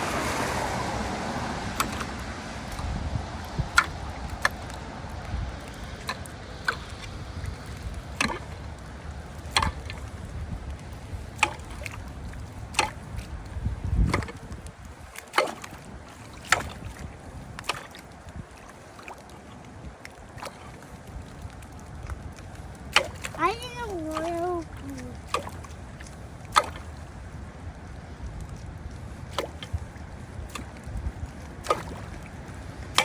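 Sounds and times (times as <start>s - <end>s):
water sloshing: 0.0s - 27.4s, 28.5s - 33.0s.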